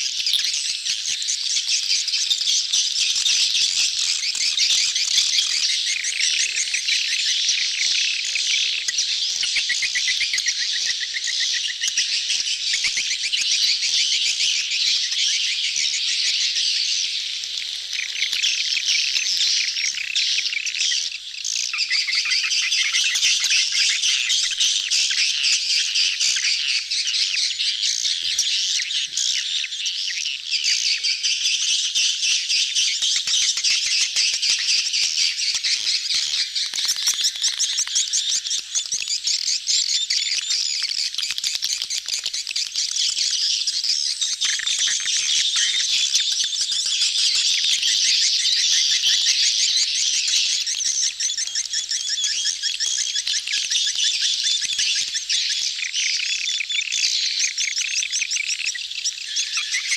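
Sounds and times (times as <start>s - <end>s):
swiftlets chattering and twittering: 0.0s - 59.9s.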